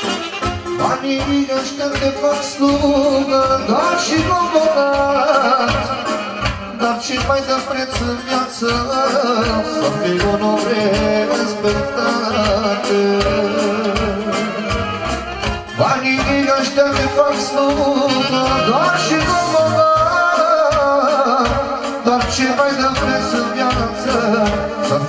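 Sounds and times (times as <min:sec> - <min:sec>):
amplified backing music: 0:00.0 - 0:25.0
man singing into microphone: 0:00.6 - 0:25.0.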